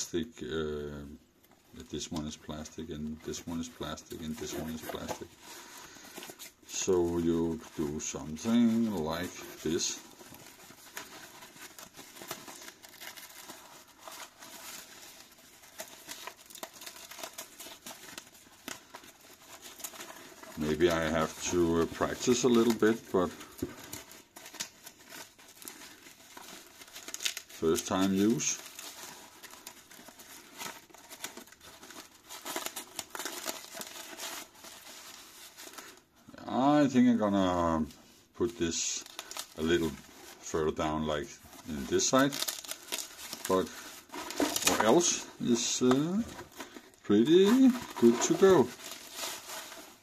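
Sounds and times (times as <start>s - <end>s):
nylon pouch rustling and scraping: 3.5s - 36.1s, 39.1s - 50.0s.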